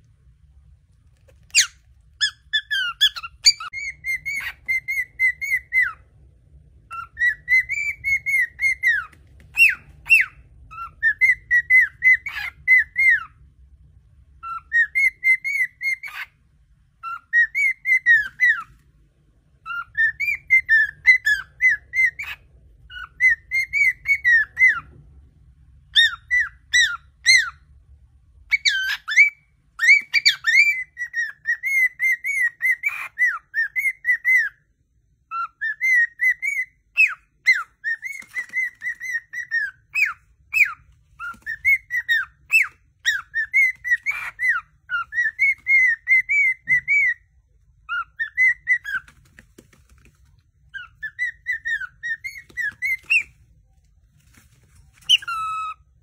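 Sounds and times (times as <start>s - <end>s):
cockatiel whistling: 1.3s - 6.1s, 6.8s - 13.4s, 14.4s - 16.4s, 17.0s - 18.8s, 19.6s - 25.0s, 25.8s - 27.7s, 28.4s - 34.6s, 35.3s - 53.4s, 54.2s - 56.0s.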